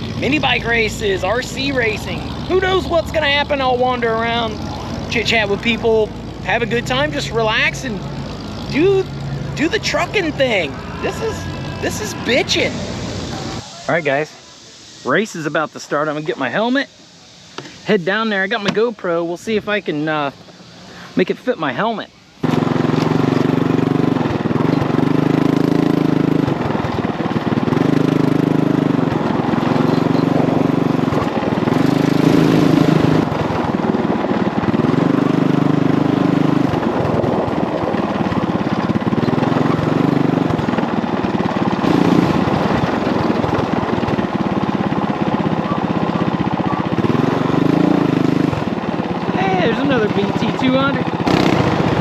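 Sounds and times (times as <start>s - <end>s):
mini bike engines revving: 0.0s - 52.0s.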